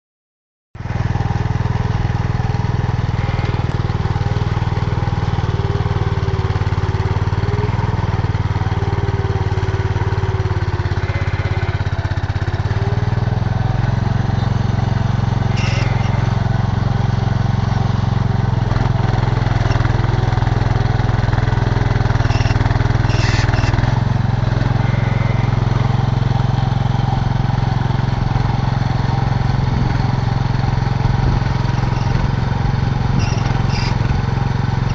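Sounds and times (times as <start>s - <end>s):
tractor engine running: 0.8s - 34.9s.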